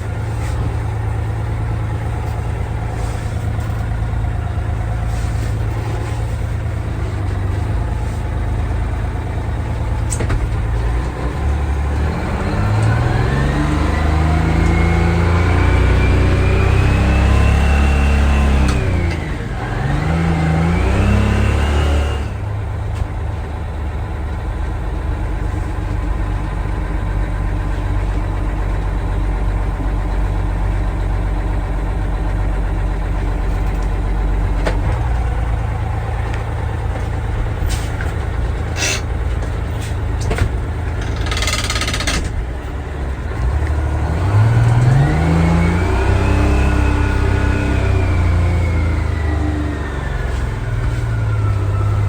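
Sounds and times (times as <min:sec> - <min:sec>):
diesel truck engine idling and revving: 0:00.0 - 0:52.0.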